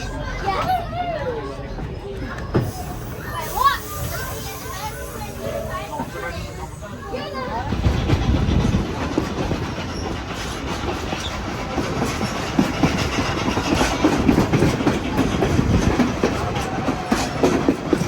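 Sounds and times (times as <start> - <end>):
train wheels clattering on rails: 1.8 - 18.0.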